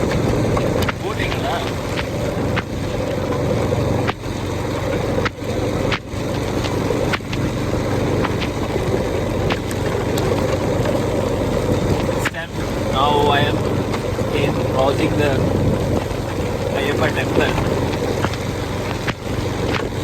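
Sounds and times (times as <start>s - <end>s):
motorcycle engine running: 0.0s - 20.0s
rain noise: 0.0s - 20.0s
wind noise: 0.0s - 20.0s.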